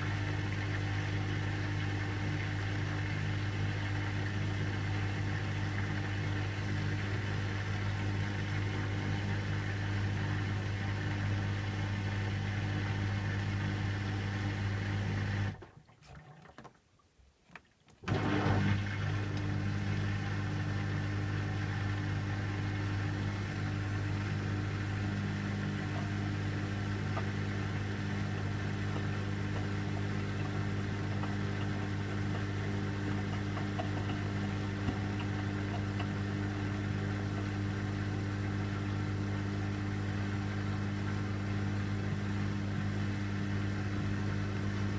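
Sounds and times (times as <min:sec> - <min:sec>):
washing machine humming: 0:00.0 - 0:16.4, 0:18.0 - 0:44.9.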